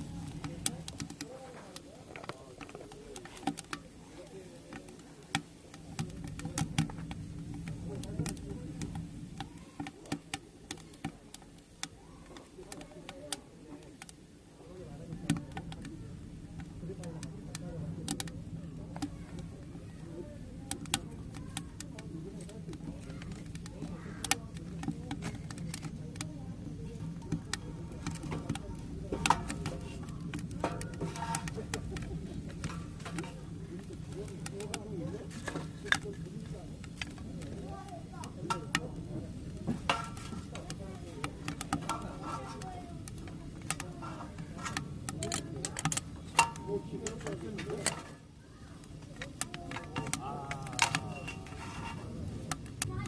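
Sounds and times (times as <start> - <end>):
sharp snaps of burning wood: 0.0 - 48.2
firewood crackling and popping: 0.0 - 53.0.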